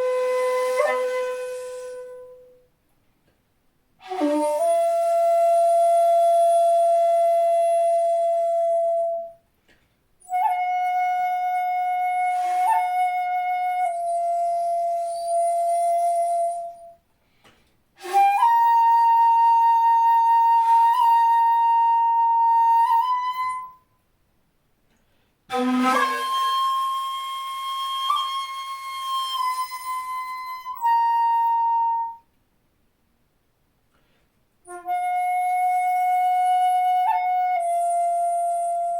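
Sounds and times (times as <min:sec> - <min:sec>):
bamboo flute long notes: 0:00.0 - 0:02.7, 0:04.0 - 0:09.4, 0:10.2 - 0:17.0, 0:18.0 - 0:23.9, 0:25.5 - 0:32.3, 0:34.6 - 0:38.9.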